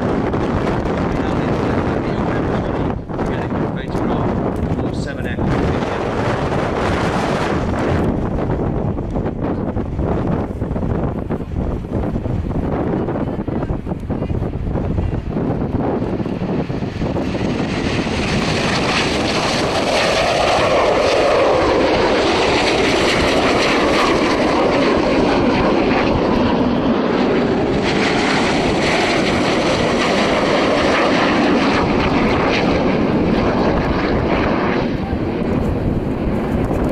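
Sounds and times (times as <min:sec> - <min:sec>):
jet aircraft passing: 0:00.0 - 0:36.9.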